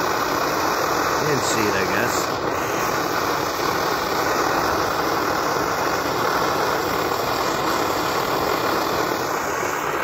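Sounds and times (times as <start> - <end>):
stove burner rushing: 0.0 - 10.0.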